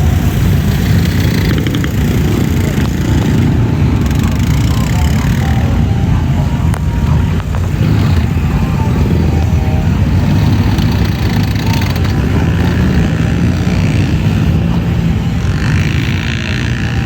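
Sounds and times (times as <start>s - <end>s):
off-road vehicle engines rumbling: 0.0s - 17.0s.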